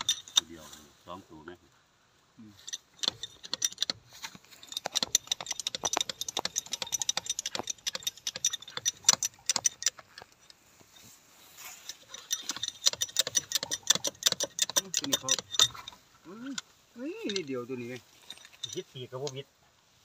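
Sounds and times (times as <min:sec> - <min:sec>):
rapid metallic clicking of hand tool: 0:00.0 - 0:00.5, 0:02.6 - 0:10.6, 0:11.7 - 0:19.4.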